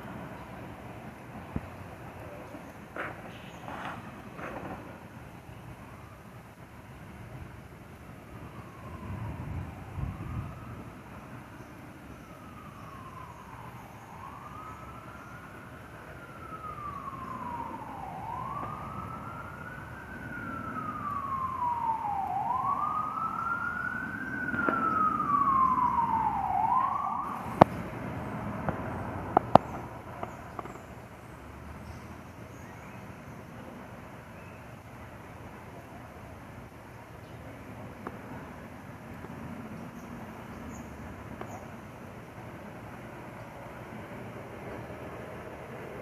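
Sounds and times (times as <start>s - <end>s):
emergency vehicle siren wailing: 0.0s - 46.0s.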